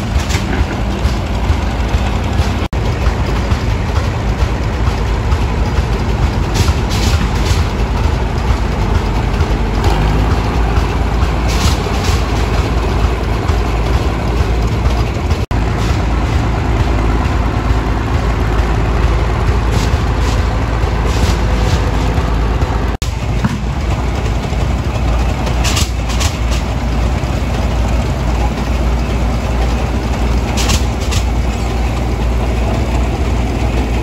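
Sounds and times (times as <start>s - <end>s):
heavy engine rumble: 0.0s - 34.0s.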